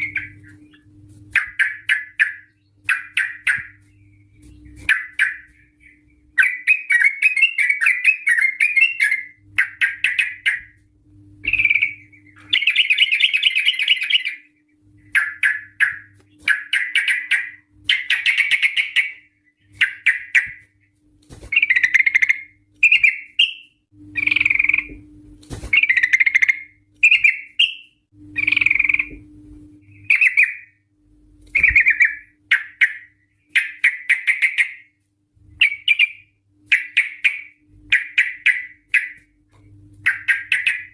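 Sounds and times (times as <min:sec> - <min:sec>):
bird chattering song: 0:00.0 - 0:10.8, 0:11.4 - 0:20.8, 0:21.5 - 0:25.0, 0:25.7 - 0:29.2, 0:29.9 - 0:30.8, 0:31.5 - 0:35.0, 0:35.6 - 0:39.3, 0:40.0 - 0:40.9
faint steady hum: 0:00.0 - 0:40.9.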